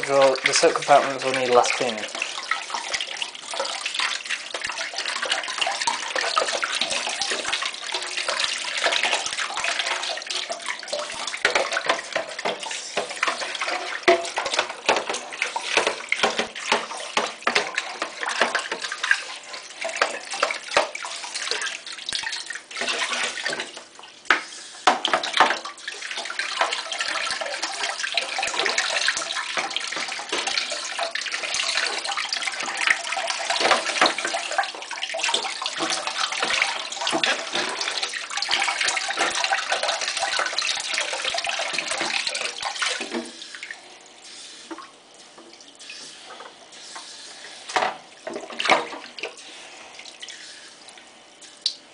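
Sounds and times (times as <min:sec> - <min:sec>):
tap water splashing on plastic: 0:00.0 - 0:43.8, 0:44.7 - 0:46.6, 0:47.6 - 0:49.4.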